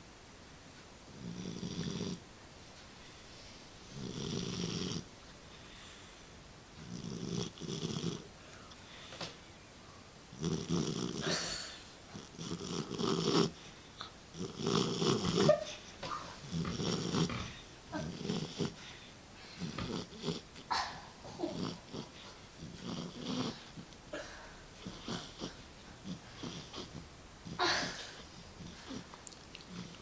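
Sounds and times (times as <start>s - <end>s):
puppy snoring: 1.1s - 2.2s, 3.4s - 5.1s, 6.8s - 8.8s, 10.3s - 30.0s.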